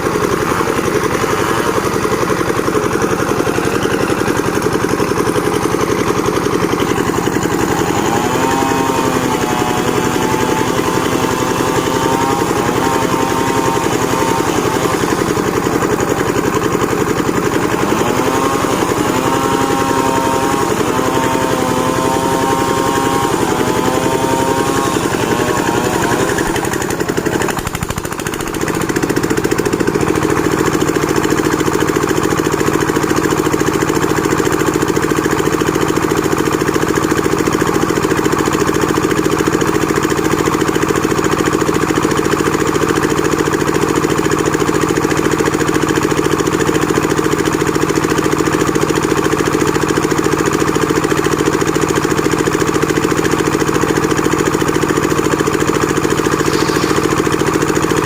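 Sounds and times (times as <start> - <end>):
sawmill machine engine running: 0.0 - 58.0.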